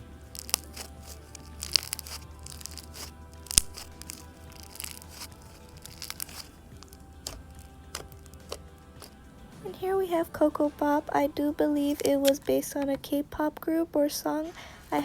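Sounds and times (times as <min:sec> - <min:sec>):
slime squished crackling: 0:00.0 - 0:15.0
soft background music: 0:00.0 - 0:15.0.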